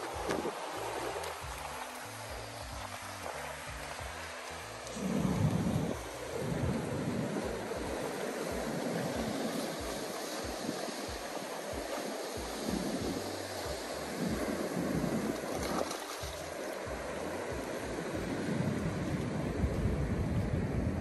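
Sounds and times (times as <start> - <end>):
sea surf breaking over rocks: 0.0 - 21.0
wind rumbling on microphone: 0.0 - 21.0.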